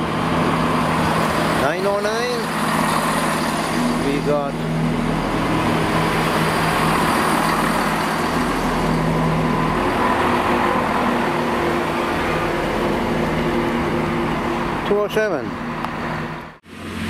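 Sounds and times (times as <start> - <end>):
low engine hum: 0.0 - 17.0
train rumbling past: 0.0 - 17.0.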